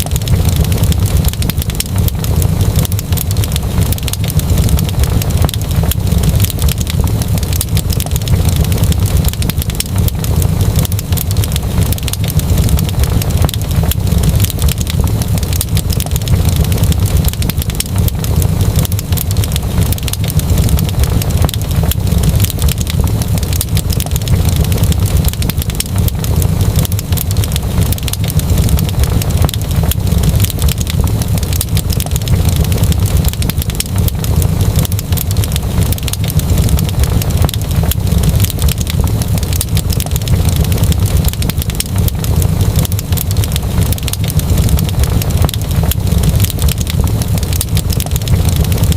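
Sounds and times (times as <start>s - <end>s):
steady low rumble: 0.0s - 48.9s
wood fire crackling: 0.0s - 48.9s.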